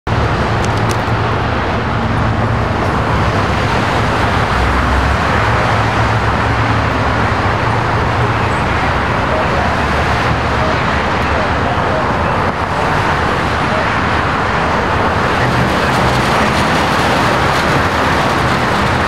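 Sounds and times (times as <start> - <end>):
freeway traffic rushing: 0.1 - 19.0
low traffic hum: 0.1 - 19.0.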